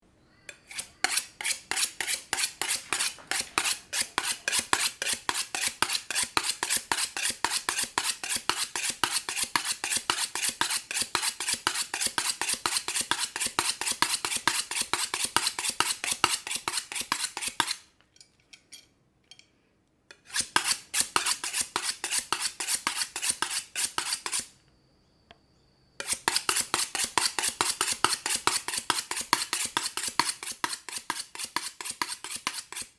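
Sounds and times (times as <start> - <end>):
knife scraping on honing steel: 0.5 - 19.4, 20.1 - 24.5, 26.0 - 32.9.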